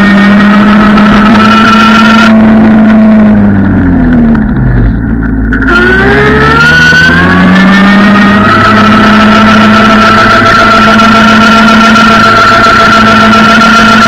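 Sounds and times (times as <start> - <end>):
wind and road noise: 0.0 - 12.6
scooter motor running: 0.0 - 14.0.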